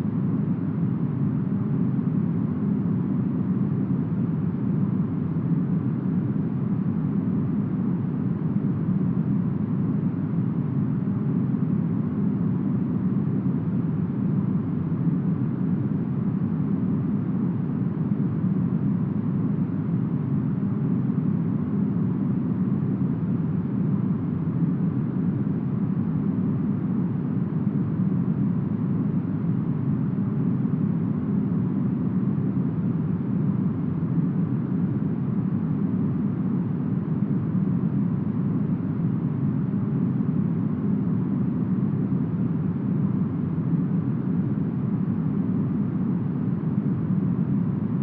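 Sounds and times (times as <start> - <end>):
deep steady brown noise: 0.0 - 48.0.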